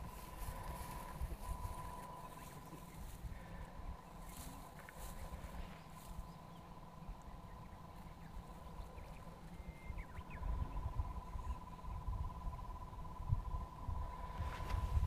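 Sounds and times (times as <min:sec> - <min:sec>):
bird chirps: 0:00.0 - 0:13.2
wind rumble on microphone: 0:00.0 - 0:15.0.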